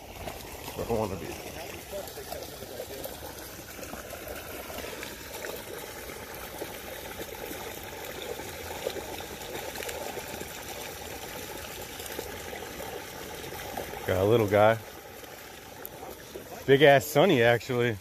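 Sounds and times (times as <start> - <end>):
water pouring from pipe: 0.0 - 18.0.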